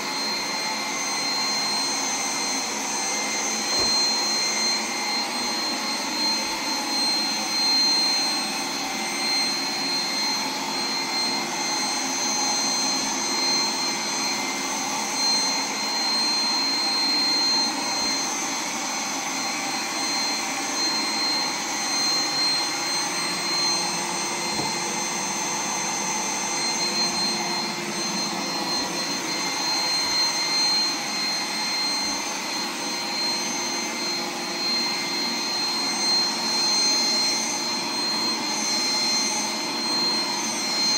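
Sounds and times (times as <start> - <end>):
robot vacuum motor whine: 0.0 - 40.9.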